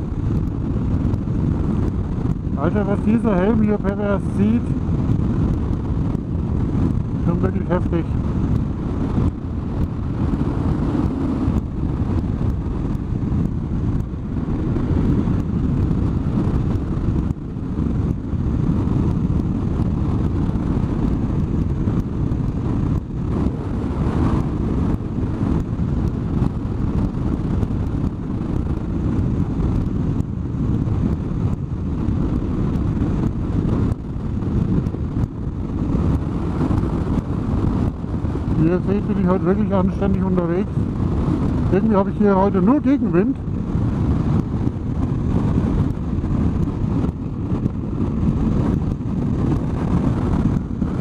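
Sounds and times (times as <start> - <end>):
motorcycle engine cruising: 0.0 - 51.0
wind and road noise: 0.0 - 51.0.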